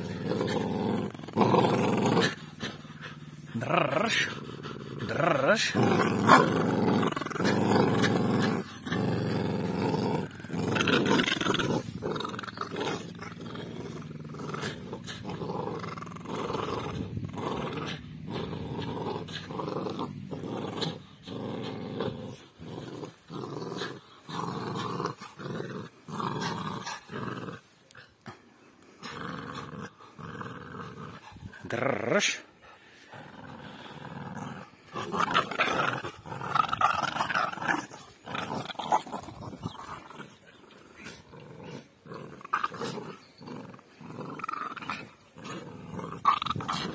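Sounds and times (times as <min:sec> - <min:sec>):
dogs play-growling: 0:00.0 - 0:46.9.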